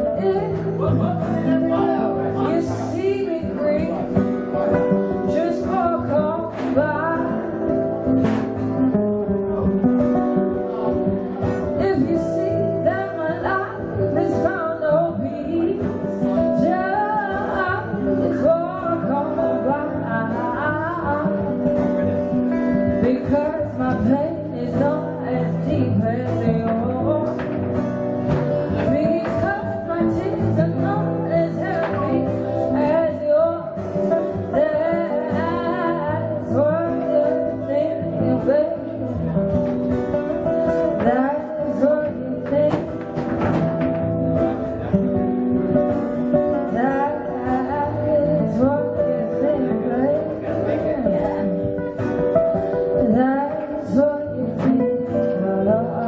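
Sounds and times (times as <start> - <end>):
woman singing: 0.0 - 9.1, 9.8 - 56.0
acoustic guitars playing: 0.0 - 56.0.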